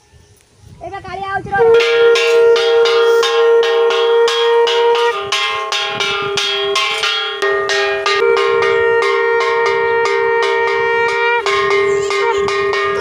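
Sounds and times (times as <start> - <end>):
conch shell blown: 1.6 - 13.0
brass hand bell ringing rapidly: 1.8 - 13.0.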